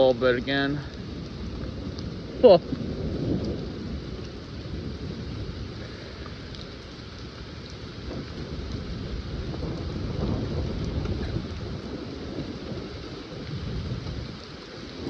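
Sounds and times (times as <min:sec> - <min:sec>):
rain falling: 0:00.0 - 0:15.0
thunder rumble: 0:00.0 - 0:15.0.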